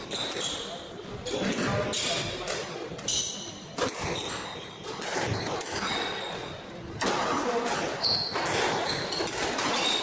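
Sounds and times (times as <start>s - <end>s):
racket hitting squash ball: 1.4s - 10.0s.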